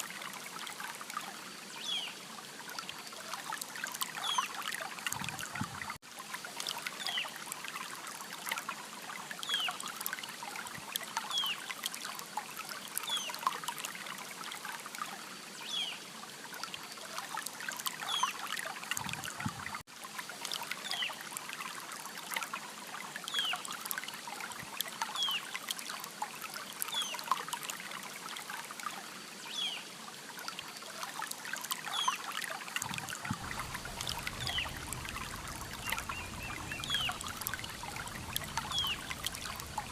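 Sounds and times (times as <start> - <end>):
river water trickling: 0.0 - 39.9.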